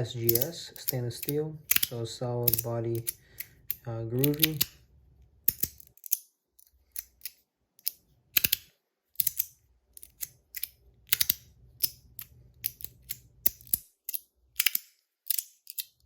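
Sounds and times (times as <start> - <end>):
magnetic fidget slider clicking: 0.3 - 4.8, 6.9 - 16.0.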